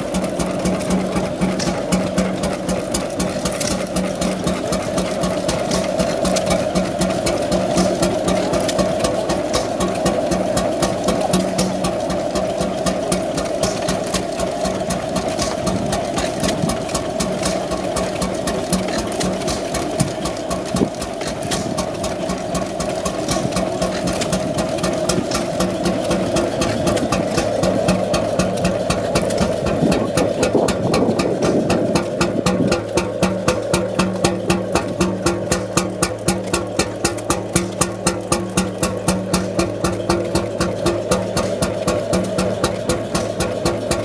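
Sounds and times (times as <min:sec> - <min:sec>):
two-stroke engine running: 0:00.0 - 0:44.0.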